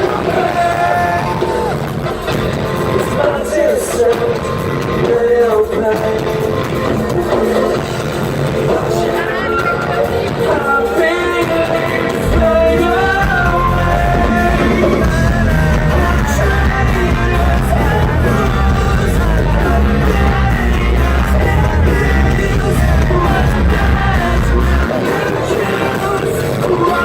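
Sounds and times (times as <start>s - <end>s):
lead singer singing: 0.0s - 27.0s
rock band playing live: 0.0s - 27.0s.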